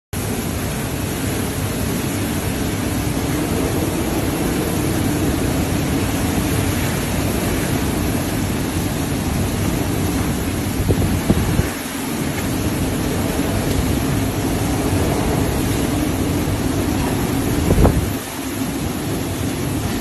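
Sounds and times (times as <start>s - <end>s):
heavy wind-driven rain: 0.2s - 20.0s
hurricane wind: 0.2s - 20.0s.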